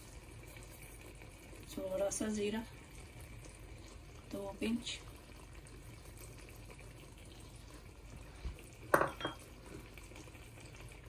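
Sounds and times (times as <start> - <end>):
curry simmering in a pan: 0.0 - 11.0.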